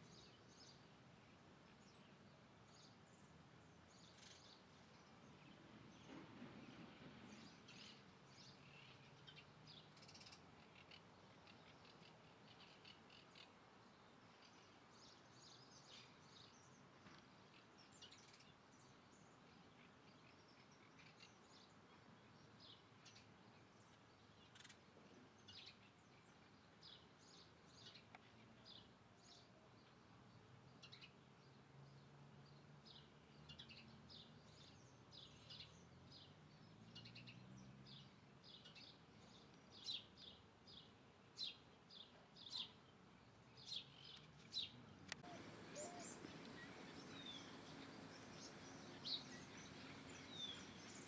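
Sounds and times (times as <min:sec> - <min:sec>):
faint birds chirping: 0:00.0 - 0:51.0
low background hiss: 0:00.0 - 0:51.0.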